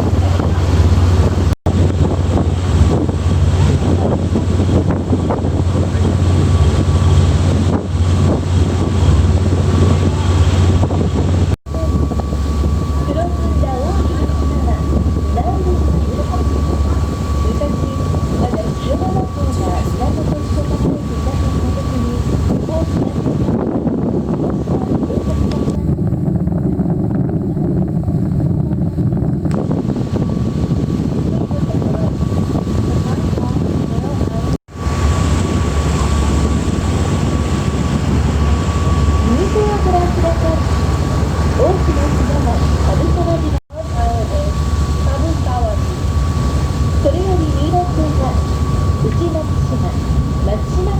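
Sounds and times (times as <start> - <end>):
rushing water: 0.0 - 25.8, 34.7 - 50.9
boat engine droning: 0.0 - 50.9
wind buffeting microphone: 0.0 - 50.9.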